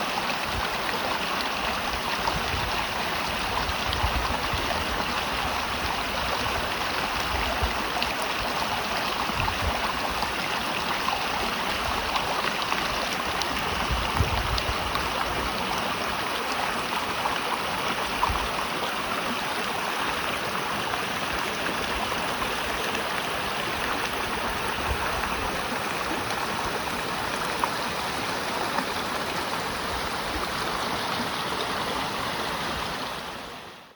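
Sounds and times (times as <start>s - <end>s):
river babbling over rocks: 0.0s - 33.9s.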